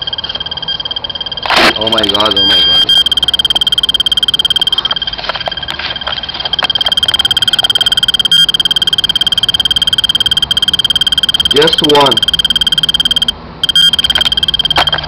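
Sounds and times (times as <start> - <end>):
radiation detector clicking rapidly: 0.0 - 15.0
steady high-pitched tone: 0.0 - 15.0.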